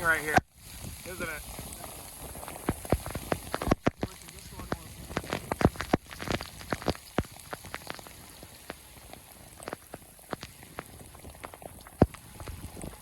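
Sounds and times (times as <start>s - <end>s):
raindrops tapping on vehicle: 0.0s - 13.0s.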